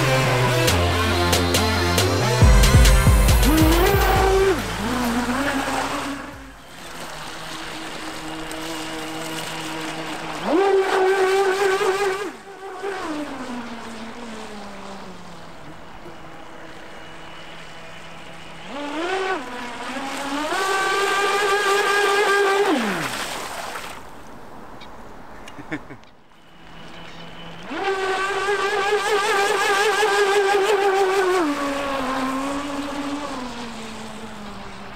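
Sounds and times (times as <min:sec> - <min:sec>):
electric motor whining: 0:00.0 - 0:23.1, 0:26.4 - 0:34.9.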